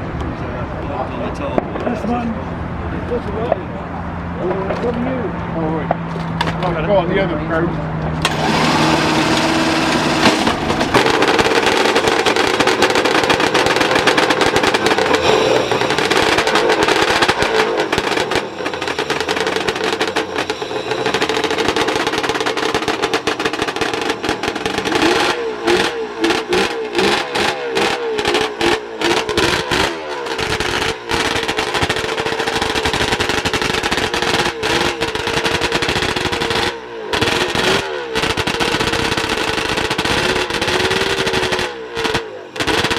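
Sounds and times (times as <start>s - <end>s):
two-stroke race bike engine revving: 8.2s - 42.9s.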